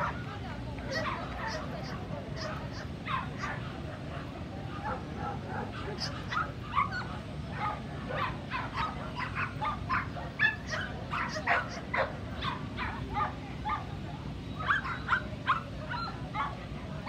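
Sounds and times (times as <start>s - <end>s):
dogs barking and yipping: 0.0s - 16.7s
low background noise: 0.0s - 17.0s.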